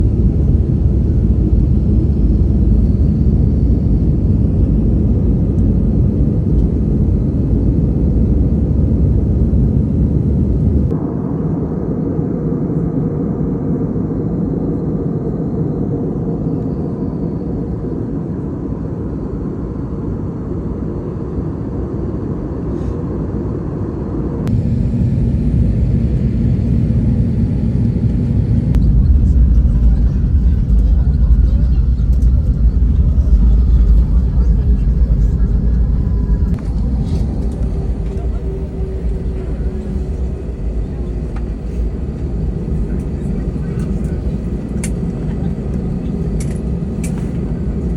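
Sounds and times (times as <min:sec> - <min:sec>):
airplane engine rumble: 0:00.0 - 0:47.9.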